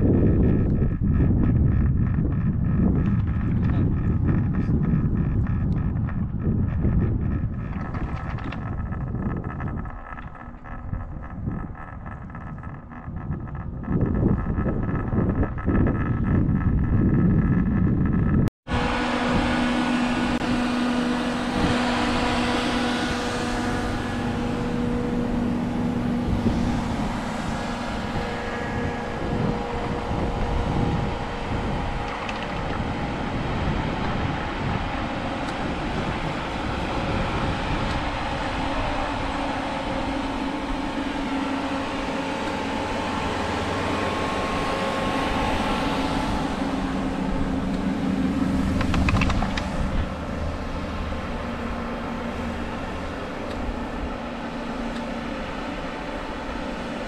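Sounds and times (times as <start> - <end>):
road and wind noise: 0.0 - 57.0
vehicle engine drone: 0.0 - 57.0.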